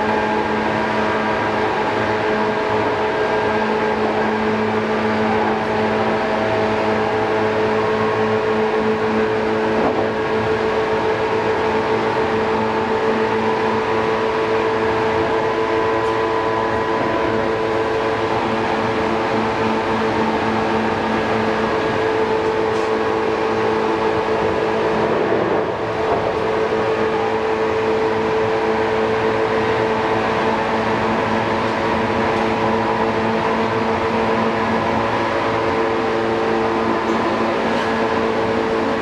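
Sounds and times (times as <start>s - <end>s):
electric train motor whine: 0.0s - 39.0s
train wheels rumbling on rails: 0.0s - 39.0s.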